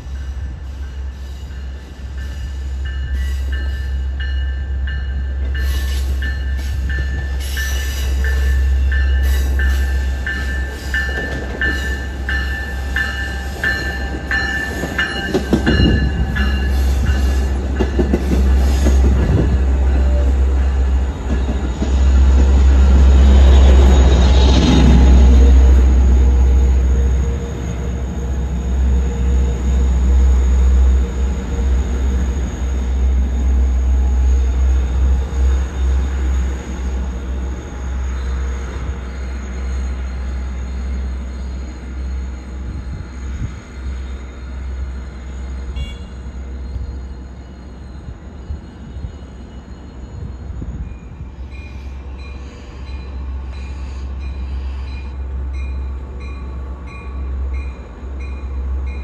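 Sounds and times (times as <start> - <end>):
diesel train passing: 0.0 - 59.0
train bell ringing: 0.0 - 59.0.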